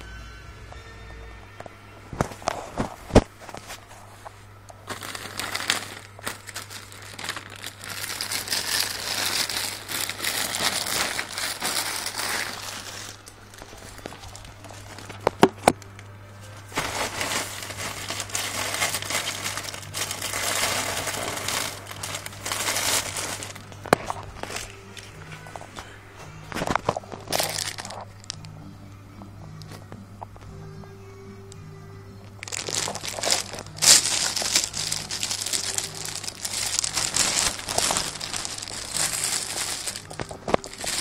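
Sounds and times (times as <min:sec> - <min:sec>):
low steady hum: 0:00.0 - 0:41.0
plastic bag crinkling: 0:02.2 - 0:15.8, 0:16.6 - 0:25.9, 0:26.6 - 0:28.4, 0:32.4 - 0:41.0.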